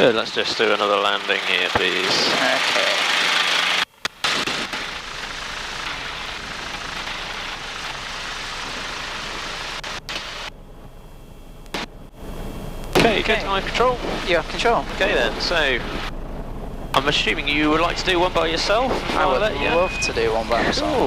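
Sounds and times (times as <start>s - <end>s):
helicopter engine and rotors: 0.0s - 21.0s.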